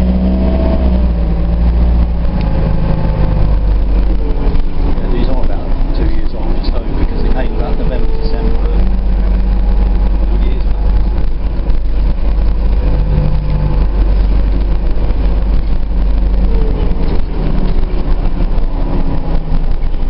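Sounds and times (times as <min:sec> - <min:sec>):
bus diesel engine rumble: 0:00.0 - 0:20.0
rattle inside bus: 0:00.0 - 0:20.0.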